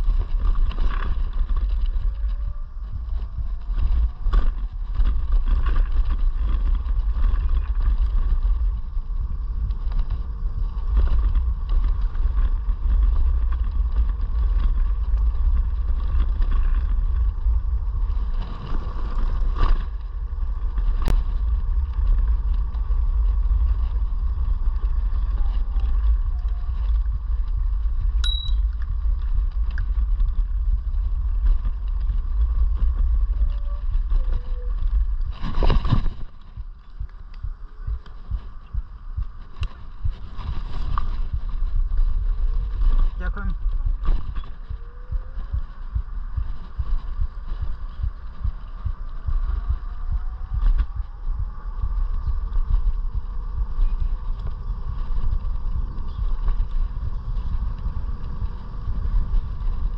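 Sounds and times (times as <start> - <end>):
wind and road rumble: 0.0 - 59.9.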